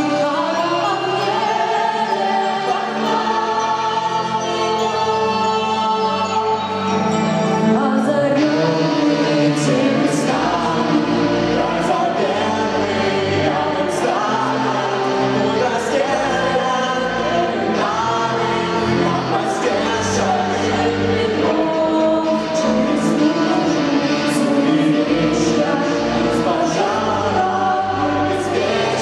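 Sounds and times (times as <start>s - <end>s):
keyboard: 0.0s - 29.0s
person singing: 0.0s - 29.0s.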